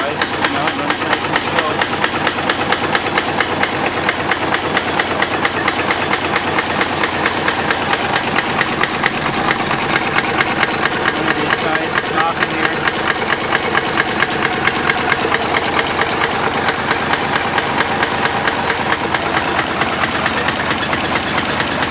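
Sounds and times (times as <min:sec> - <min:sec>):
cooling fan rushing: 0:00.0 - 0:21.9
diesel engine idling with clatter: 0:00.0 - 0:21.9.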